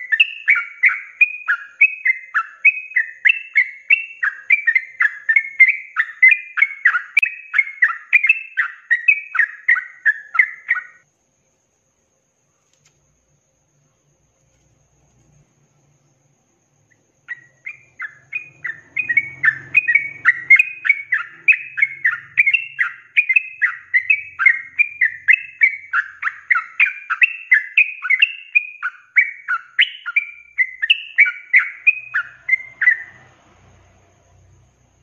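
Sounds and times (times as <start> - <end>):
bird singing whistled notes: 0.0 - 11.1, 14.8 - 35.0.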